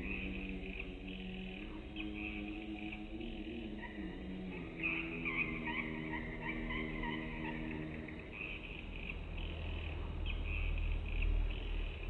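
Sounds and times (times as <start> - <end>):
soft low drone: 0.0 - 10.2
birds twittering: 0.0 - 12.0.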